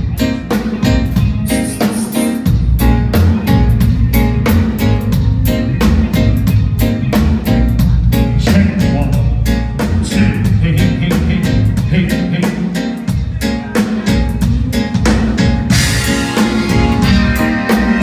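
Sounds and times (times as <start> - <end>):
heavy bass line: 0.0 - 18.0
reggae band playing: 0.0 - 18.0.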